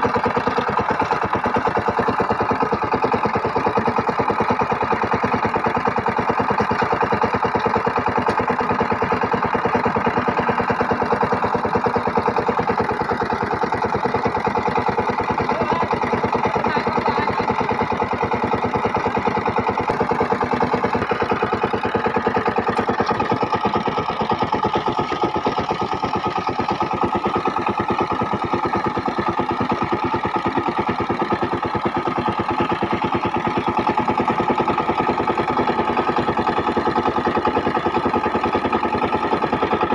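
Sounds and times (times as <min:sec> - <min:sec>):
diesel tiller engine running: 0:00.0 - 0:39.9.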